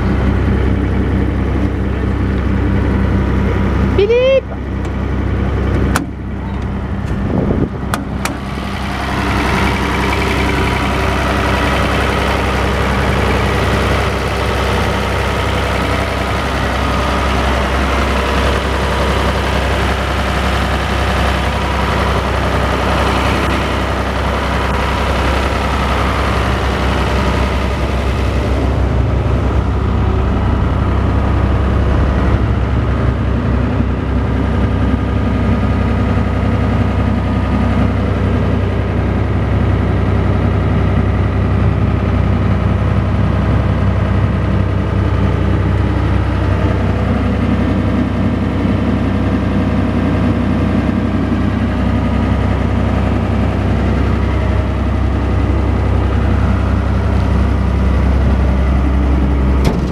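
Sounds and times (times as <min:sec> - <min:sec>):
diesel generator humming: 0:00.0 - 0:59.9.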